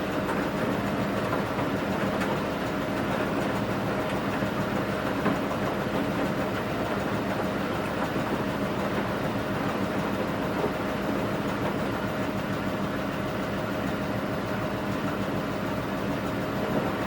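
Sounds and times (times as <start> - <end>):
washing machine drum rumble: 0.0 - 17.0.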